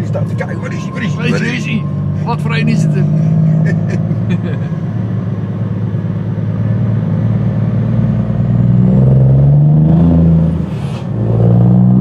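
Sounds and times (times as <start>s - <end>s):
truck engine accelerating: 0.0s - 12.0s.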